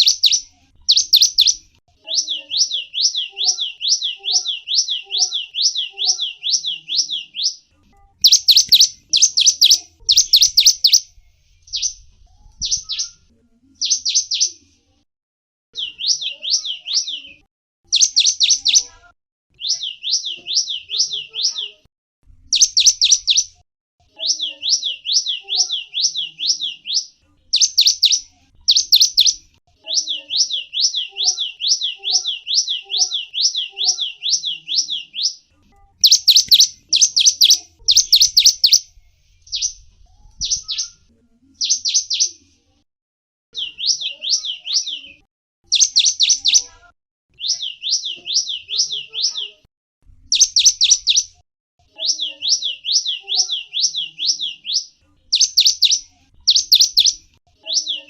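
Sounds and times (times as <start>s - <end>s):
songbird chirping: 0.0s - 14.8s, 15.8s - 21.9s, 22.5s - 42.6s, 43.6s - 49.6s, 50.3s - 58.0s.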